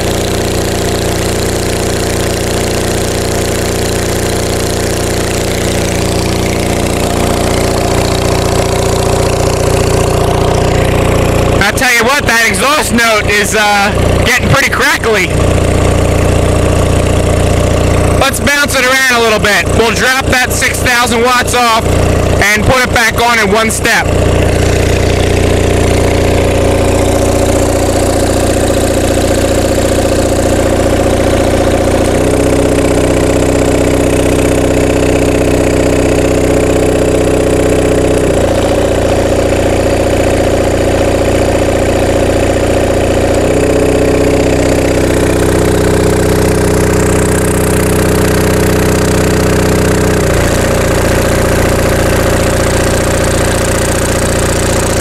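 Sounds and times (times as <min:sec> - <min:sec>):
diesel generator running: 0:00.0 - 0:55.0.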